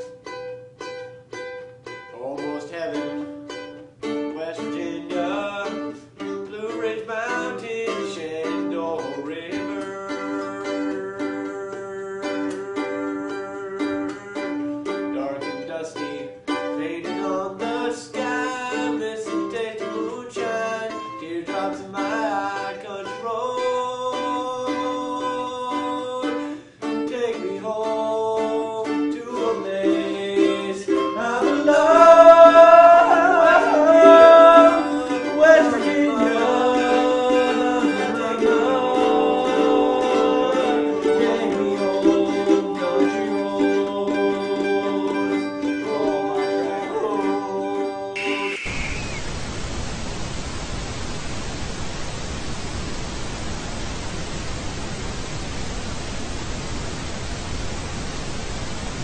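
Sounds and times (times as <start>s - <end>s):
plucked string instrument music: 0.0s - 48.2s.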